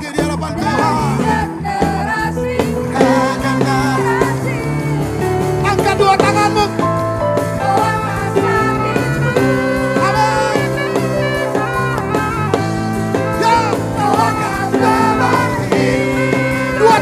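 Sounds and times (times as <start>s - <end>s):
voices singing: 0.0s - 17.0s
worship band playing: 0.0s - 17.0s.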